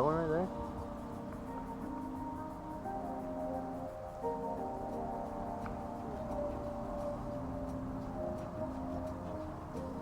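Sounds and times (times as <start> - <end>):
soft ambient music: 0.0 - 10.0.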